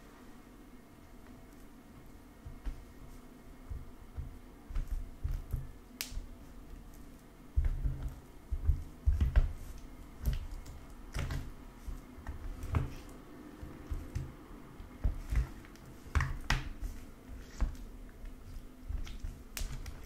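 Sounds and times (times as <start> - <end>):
spoon stirring sticky slime: 3.7 - 20.0.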